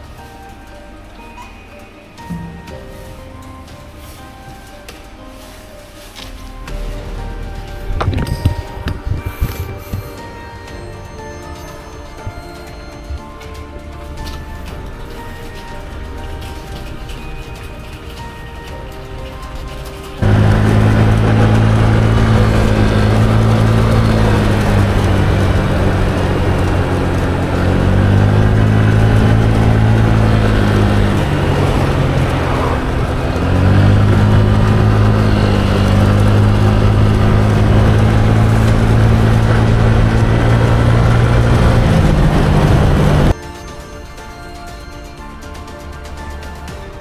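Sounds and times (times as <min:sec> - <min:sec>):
vehicle engine running: 0:02.6 - 0:43.4.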